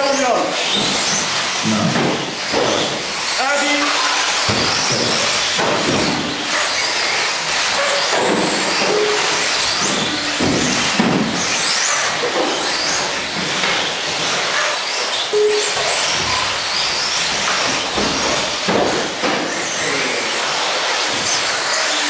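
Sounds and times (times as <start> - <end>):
rc buggy motors whining: 0.0 - 22.0.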